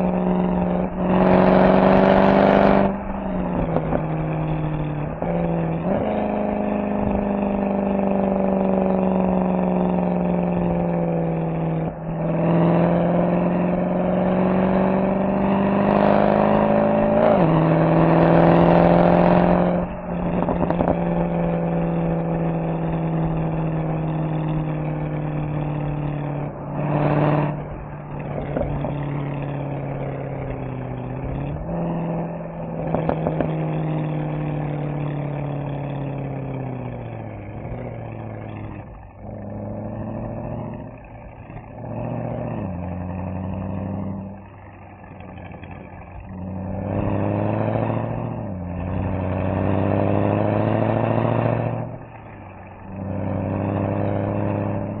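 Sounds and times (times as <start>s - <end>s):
car engine downshifting: 0.0s - 55.0s
engine rev blips: 0.0s - 55.0s.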